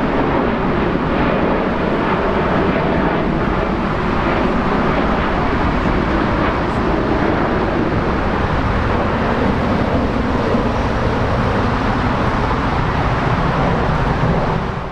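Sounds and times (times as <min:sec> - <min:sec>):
jet engines rumbling: 0:00.0 - 0:14.9.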